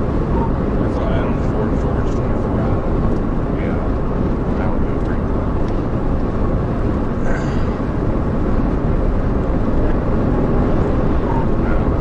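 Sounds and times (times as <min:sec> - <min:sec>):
car driving at high speed: 0:00.0 - 0:12.0.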